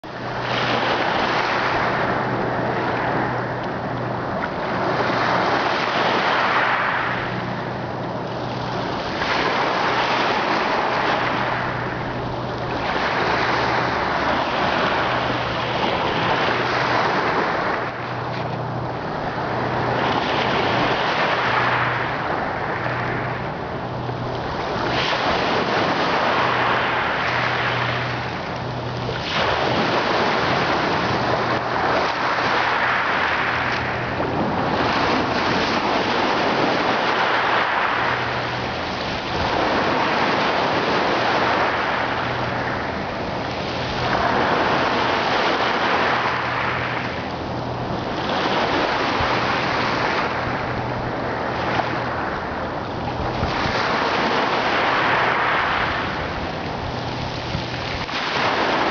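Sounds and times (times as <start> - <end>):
ocean waves breaking: 0.0 - 58.9.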